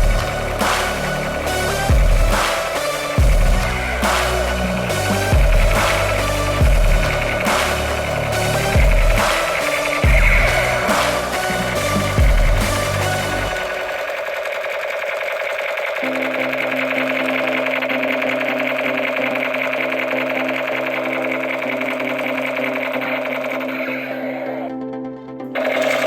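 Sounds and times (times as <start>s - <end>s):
tinny electronic tune: 0.0s - 26.0s.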